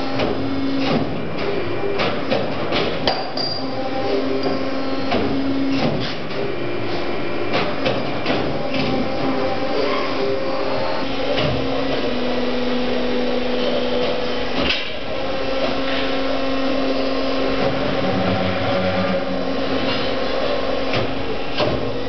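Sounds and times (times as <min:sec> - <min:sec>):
tube-bending machine motor hum: 0:00.0 - 0:22.0.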